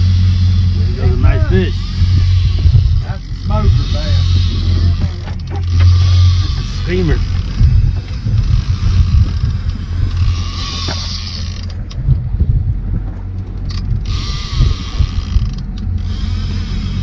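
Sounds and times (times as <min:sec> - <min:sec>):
fishing reel ratcheting: 0:00.0 - 0:11.8, 0:13.4 - 0:17.0
steady low rumble: 0:00.0 - 0:17.0.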